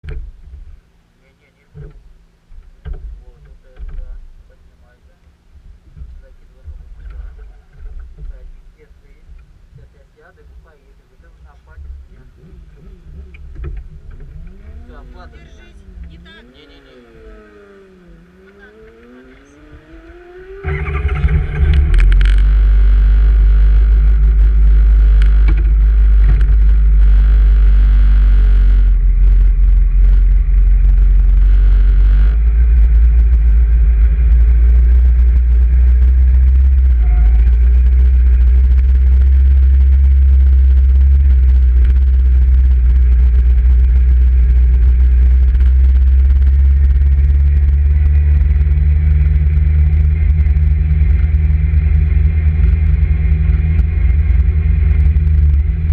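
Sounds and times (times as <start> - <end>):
motorcycle engine rumbling: 0.0 - 55.9.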